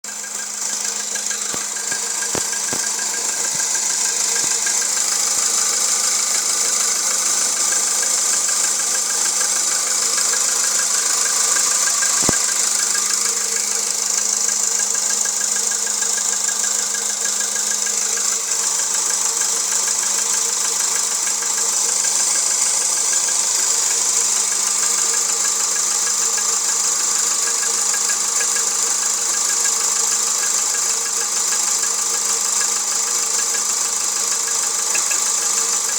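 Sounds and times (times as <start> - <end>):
car engine running with knock: 0.0 - 35.9.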